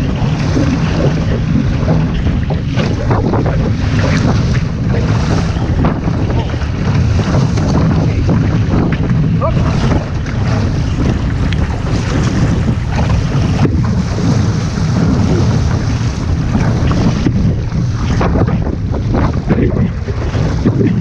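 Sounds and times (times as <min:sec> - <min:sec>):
water splashing along hull: 0:00.0 - 0:21.0
wind buffeting microphone: 0:00.0 - 0:21.0.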